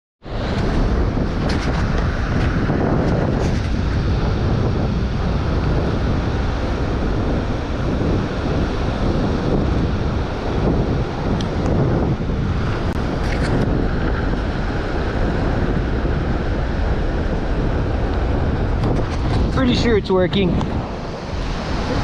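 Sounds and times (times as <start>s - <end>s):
sea waves: 0.2s - 22.0s
wind buffeting microphone: 0.2s - 22.0s.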